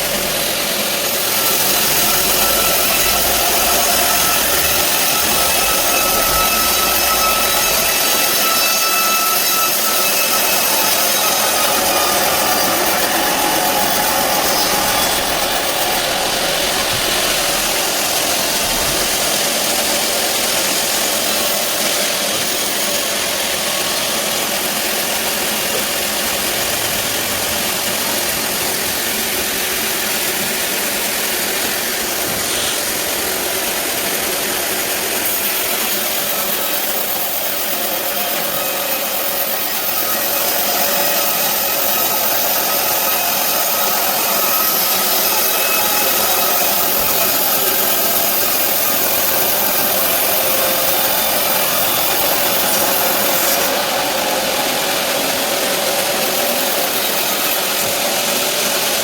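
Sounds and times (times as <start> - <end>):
thin whine: 0.0 - 58.0
band saw cutting log: 0.0 - 59.0.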